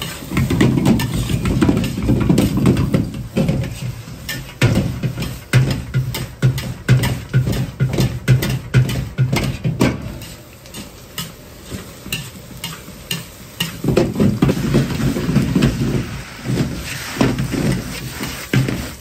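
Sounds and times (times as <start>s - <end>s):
metal spatula scraping a wok: 0.0s - 19.0s
rice sizzling: 0.0s - 19.0s.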